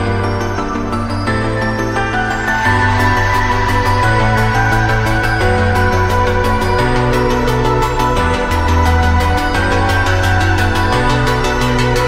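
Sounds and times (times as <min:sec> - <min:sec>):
electronic music with bass line: 0:00.0 - 0:12.0.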